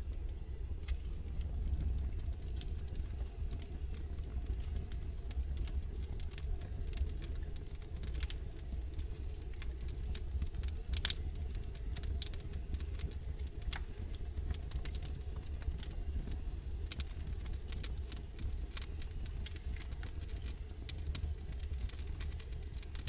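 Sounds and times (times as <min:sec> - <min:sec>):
fire crackling and popping: 0:00.0 - 0:23.0
low fire rumble: 0:00.0 - 0:23.0.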